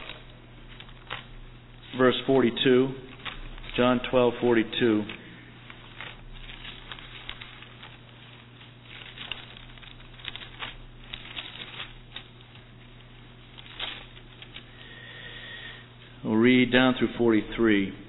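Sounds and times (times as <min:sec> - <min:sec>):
thin pages rustling: 0:00.0 - 0:15.1
steady low hum: 0:00.0 - 0:18.0.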